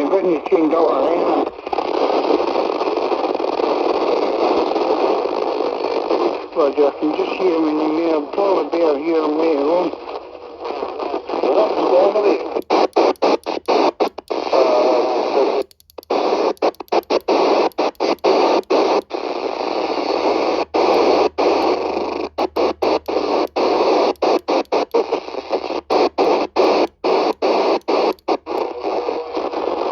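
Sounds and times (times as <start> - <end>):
radio static hiss: 0.0 - 29.9.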